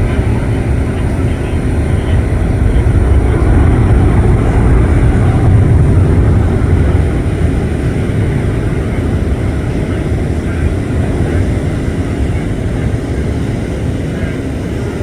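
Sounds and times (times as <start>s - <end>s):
jet engines rumbling in flight: 0.0s - 15.0s.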